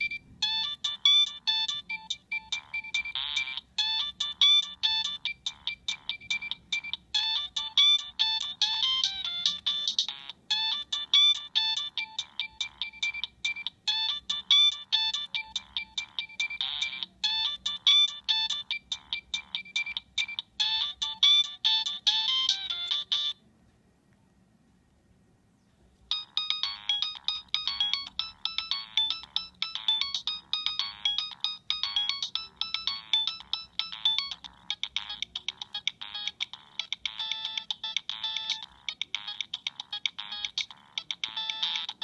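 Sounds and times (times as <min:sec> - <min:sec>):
phone ringtone of electronic beeps: 0:00.0 - 0:23.4, 0:26.1 - 0:42.0.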